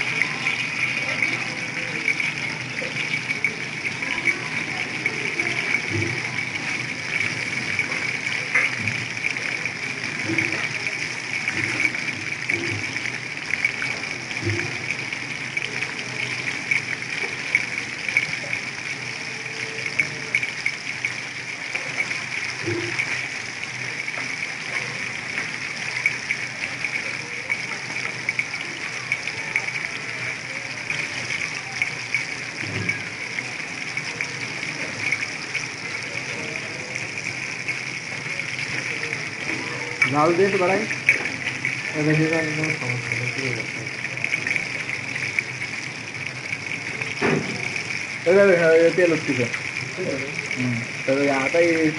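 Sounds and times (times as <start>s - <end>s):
chicken deep-frying in hot oil: 0.0s - 51.9s.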